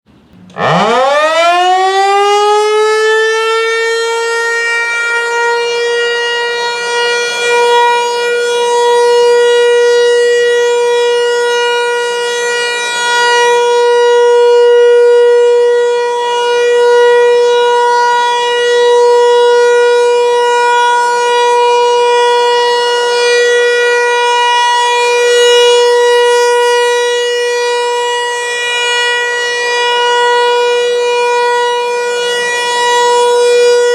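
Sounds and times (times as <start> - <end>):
warning siren winding up: 0.4 - 33.9.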